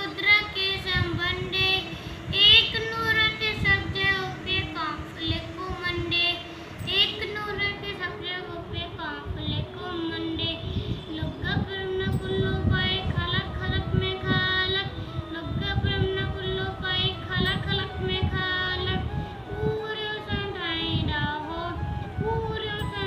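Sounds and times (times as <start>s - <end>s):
child singing a hymn: 0.0s - 23.0s
instrumental accompaniment: 0.0s - 23.0s.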